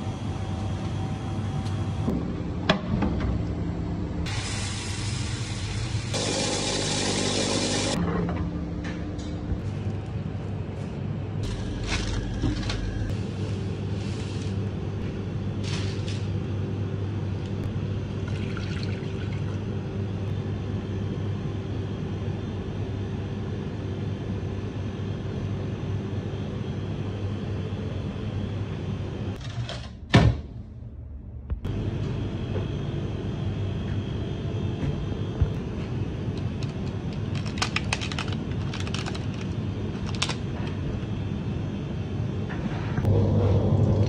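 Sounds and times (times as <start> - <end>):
low hum of kitchen machinery: 0.0 - 44.0.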